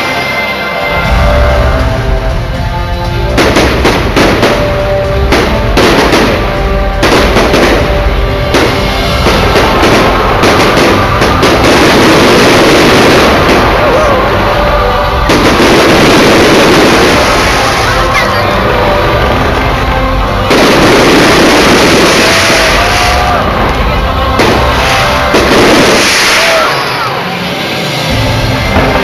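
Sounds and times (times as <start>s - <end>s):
music over loudspeakers: 0.0s - 29.0s
fireworks bangs: 3.2s - 29.0s.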